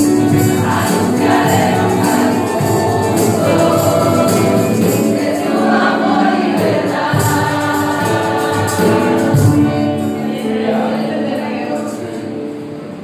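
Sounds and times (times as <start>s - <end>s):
women singing worship song: 0.0s - 12.5s
acoustic guitar: 0.0s - 13.0s.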